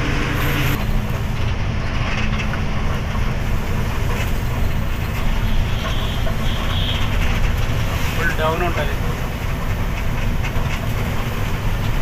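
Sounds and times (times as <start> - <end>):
lorry driving at speed: 0.0 - 12.0.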